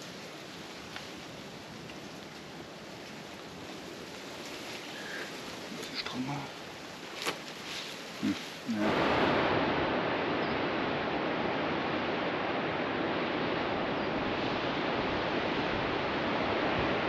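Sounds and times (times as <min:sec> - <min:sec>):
ocean surf: 0:00.0 - 0:17.0
wind: 0:00.0 - 0:17.0.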